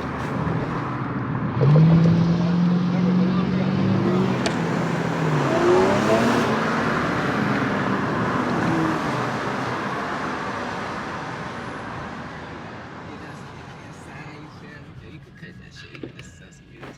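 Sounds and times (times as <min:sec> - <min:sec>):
car accelerating away: 0:00.0 - 0:14.0
car engine revving: 0:00.0 - 0:15.9.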